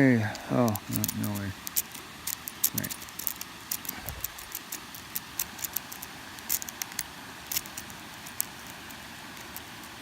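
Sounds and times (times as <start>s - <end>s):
lock pick clicking and scraping: 0.7s - 9.8s.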